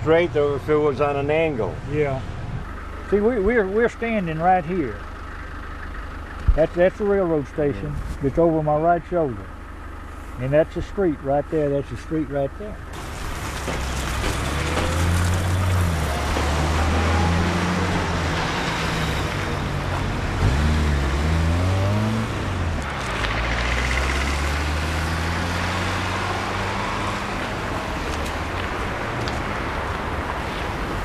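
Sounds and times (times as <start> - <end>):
passing vehicle engines: 0.0 - 31.0.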